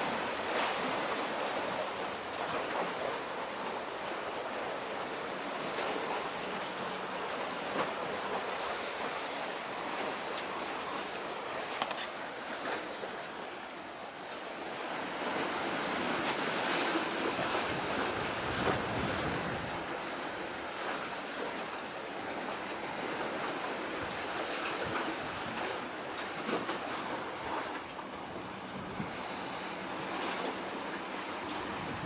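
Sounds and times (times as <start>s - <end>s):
waves washing against shore: 0.0s - 32.0s
wind: 0.0s - 32.0s.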